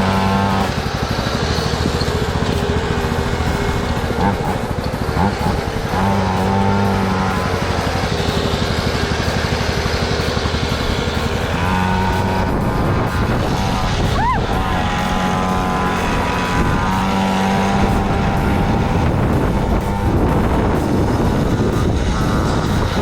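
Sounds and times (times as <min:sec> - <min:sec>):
small engine revving: 0:00.0 - 0:23.0.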